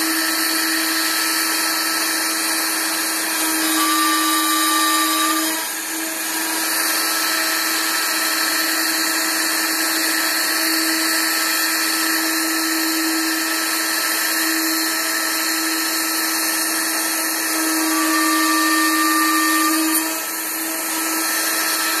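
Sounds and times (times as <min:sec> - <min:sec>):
router bit cutting wood: 0:00.0 - 0:22.0
router motor hum: 0:00.0 - 0:22.0.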